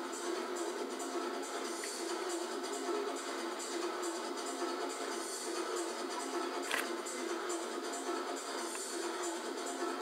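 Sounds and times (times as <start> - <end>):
thin-sounding music: 0.0 - 10.0.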